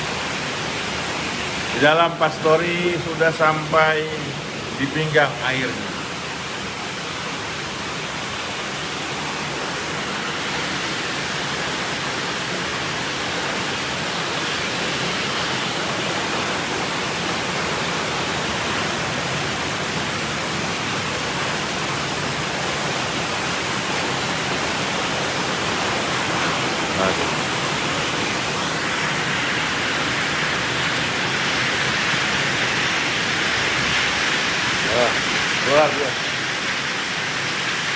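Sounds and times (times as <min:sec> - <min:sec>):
rushing flood water: 0:00.0 - 0:37.9.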